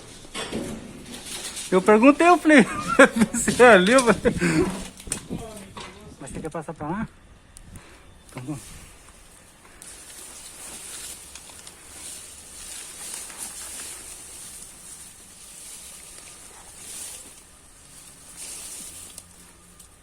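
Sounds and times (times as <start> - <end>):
rustling and shuffling of gear: 0.0 - 6.1, 7.4 - 20.0.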